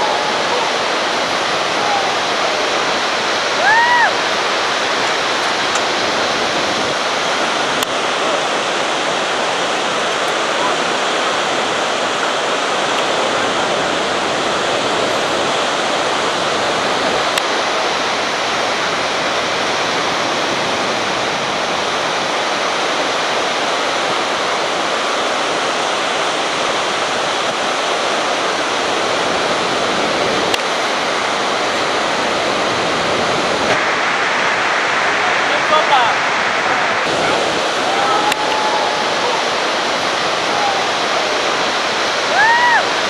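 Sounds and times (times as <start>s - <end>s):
rocky river rushing: 0.0s - 43.0s.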